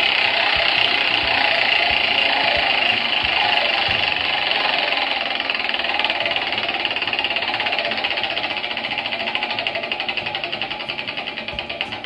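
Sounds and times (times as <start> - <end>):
prize wheel ticking: 0.0 - 12.0.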